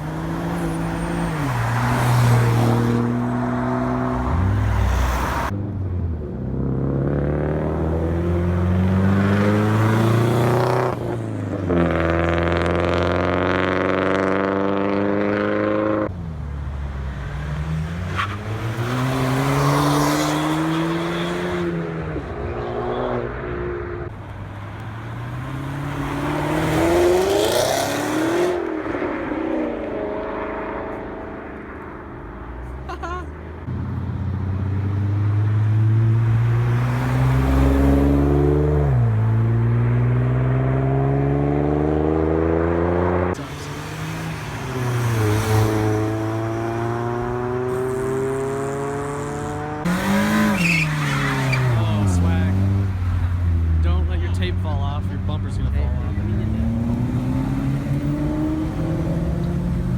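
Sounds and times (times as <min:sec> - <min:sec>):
cars accelerating hard: 0:00.0 - 0:05.6, 0:06.4 - 0:33.0, 0:33.6 - 0:59.9.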